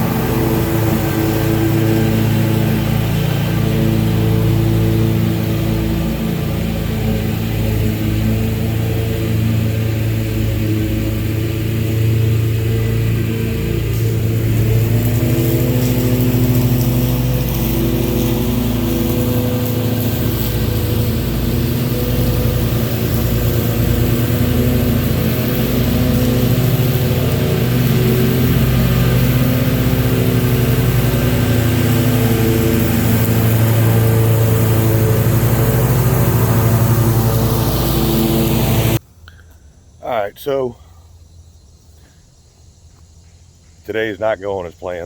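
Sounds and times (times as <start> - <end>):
engine running steadily: 0.0 - 39.5.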